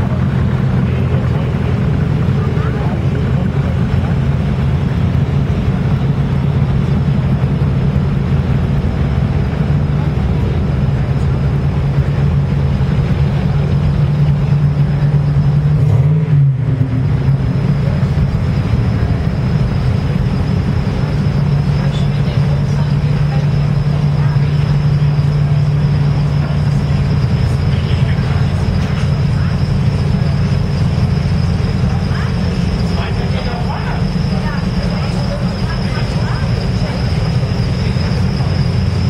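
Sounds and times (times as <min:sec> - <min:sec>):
cars rolling slowly past: 0:00.0 - 0:39.0.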